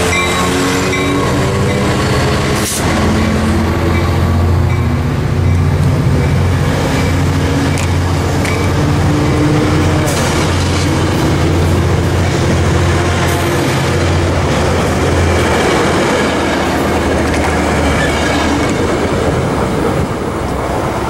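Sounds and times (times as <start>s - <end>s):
locomotive engine drone: 0.0s - 21.0s
train coaches rolling: 0.0s - 21.0s.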